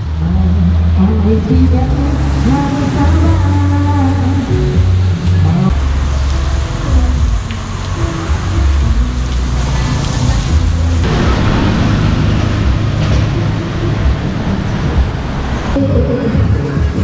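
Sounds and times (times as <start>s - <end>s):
background music bass line: 0.0s - 15.2s, 15.8s - 17.0s
rain on a wet street: 0.0s - 17.0s.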